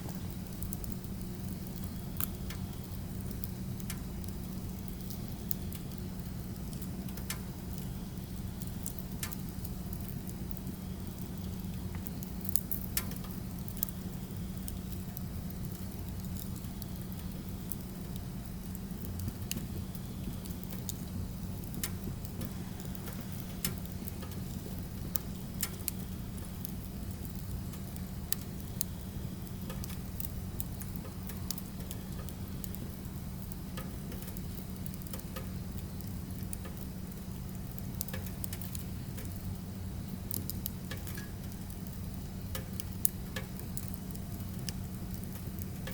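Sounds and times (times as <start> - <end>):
fire hissing: 0.0 - 45.9
firewood crackling and popping: 0.0 - 45.9.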